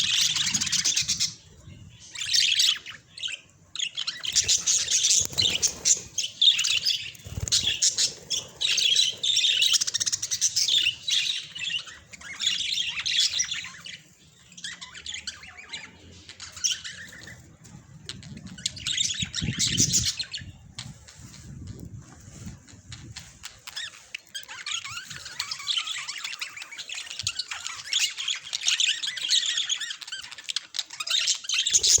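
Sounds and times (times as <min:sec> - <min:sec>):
budgies chirping and chattering: 0:00.0 - 0:32.0.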